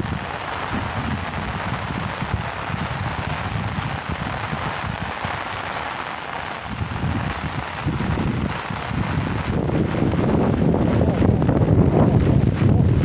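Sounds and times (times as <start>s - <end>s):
heavy rain falling: 0.0s - 13.0s
wind buffeting microphone: 0.0s - 13.0s.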